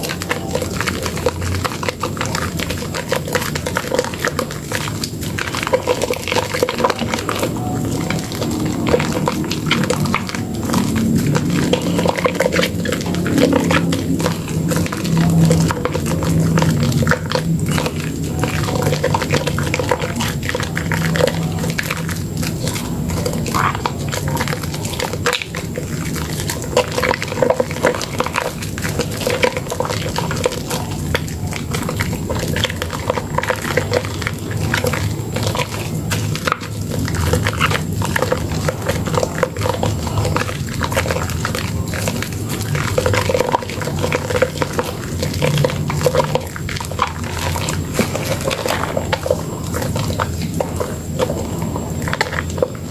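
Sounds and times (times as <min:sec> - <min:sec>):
squelching soap lather: 0:00.0 - 0:52.9.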